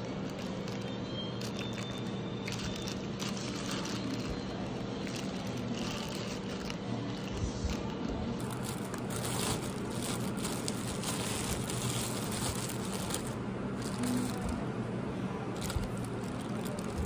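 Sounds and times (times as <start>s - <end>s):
plastic bags crinkling: 0.0s - 14.6s, 15.6s - 17.0s
steady low hum: 0.0s - 17.0s.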